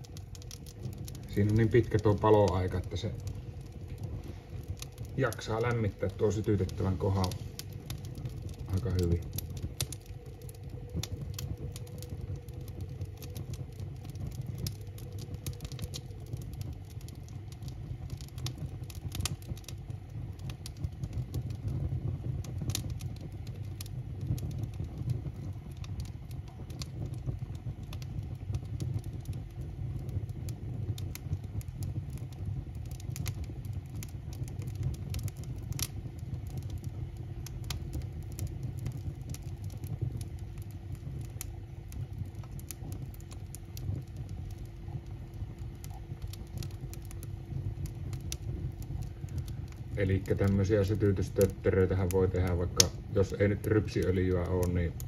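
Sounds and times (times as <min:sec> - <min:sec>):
low rush of flame: 0:00.0 - 0:55.0
wood fire crackling and popping: 0:00.0 - 0:55.0.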